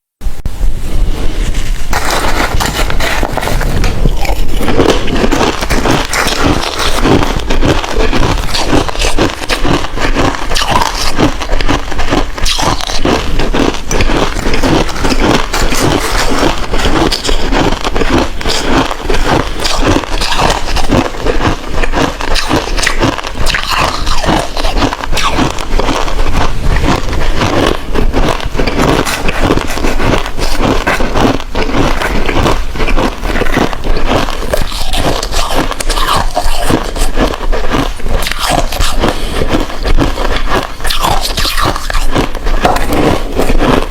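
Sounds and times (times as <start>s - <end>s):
ice crunching while chewed: 1.4s - 43.9s.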